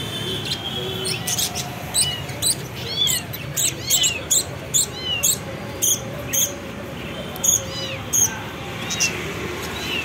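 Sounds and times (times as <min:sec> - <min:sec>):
small birds chirping: 0:00.4 - 0:10.0.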